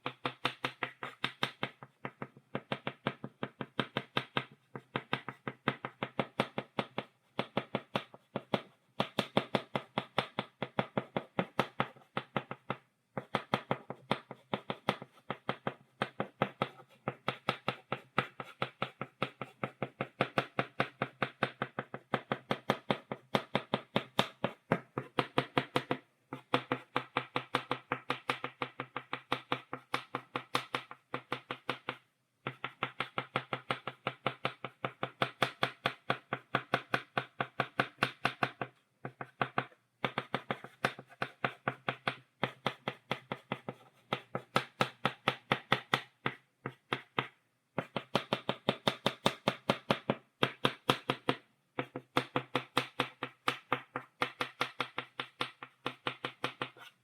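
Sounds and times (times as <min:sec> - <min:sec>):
chalk tapping on blackboard: 0:00.0 - 0:57.0.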